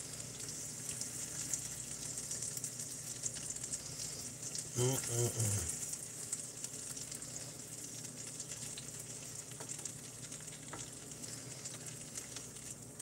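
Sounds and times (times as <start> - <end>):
fish sizzling in a skillet: 0.0 - 13.0.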